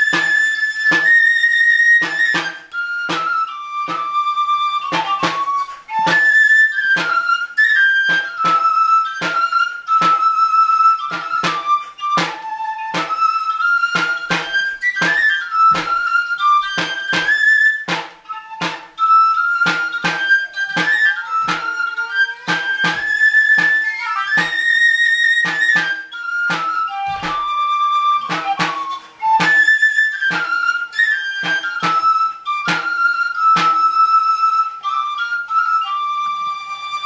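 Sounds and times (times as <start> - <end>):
high flute melody: 0.0 - 37.0
drumbeat: 2.0 - 7.4, 8.1 - 33.9.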